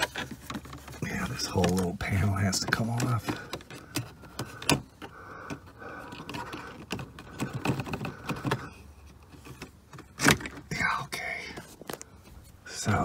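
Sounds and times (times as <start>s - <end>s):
faint background hum: 0.1s - 13.0s.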